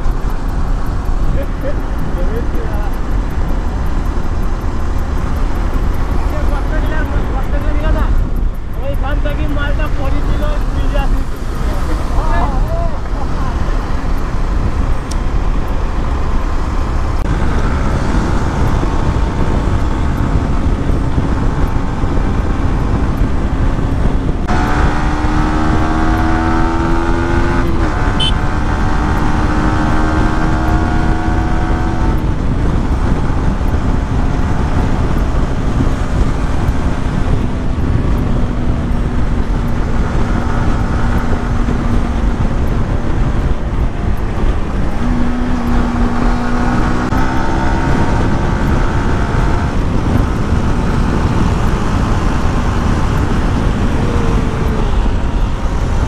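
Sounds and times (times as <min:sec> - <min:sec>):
motorcycle engine: 0:00.0 - 0:56.0
wind rushing over microphone: 0:00.0 - 0:56.0.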